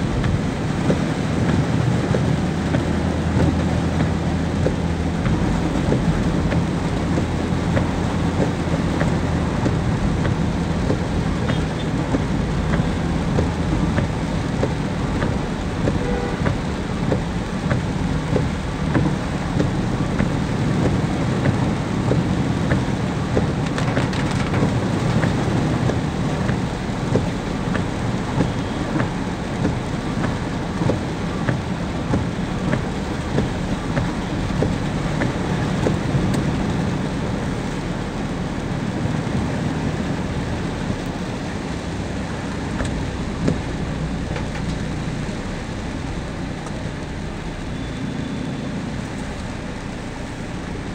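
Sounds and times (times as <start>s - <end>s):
car driving low rumble: 0.0s - 50.9s
rain pattering on a car: 0.0s - 50.9s.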